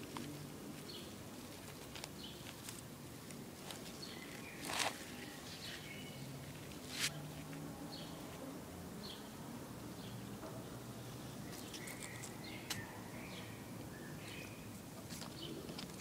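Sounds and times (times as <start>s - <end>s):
small birds chirping: 0.0s - 7.2s, 7.8s - 16.0s
faint outdoor ambience: 0.0s - 16.0s.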